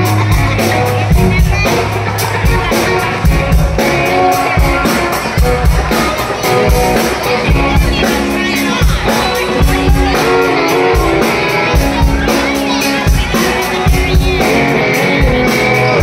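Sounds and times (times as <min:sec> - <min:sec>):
bass guitar: 0:00.0 - 0:16.0
drum kit beat: 0:00.0 - 0:16.0
electric guitar: 0:00.0 - 0:16.0.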